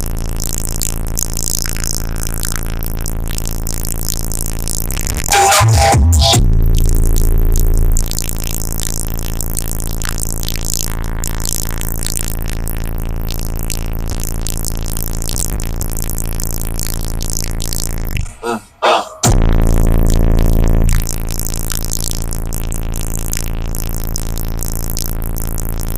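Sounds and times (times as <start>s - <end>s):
bass-heavy hip-hop beat: 0.0s - 25.9s.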